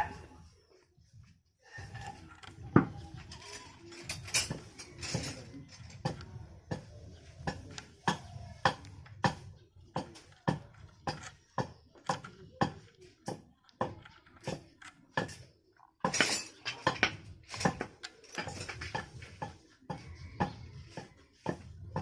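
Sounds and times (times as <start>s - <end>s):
sharp taps and knocks: 2.4s - 22.0s.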